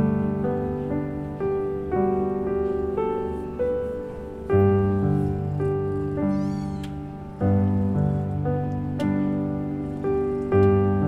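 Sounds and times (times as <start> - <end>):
slow solo piano: 0.0 - 11.0.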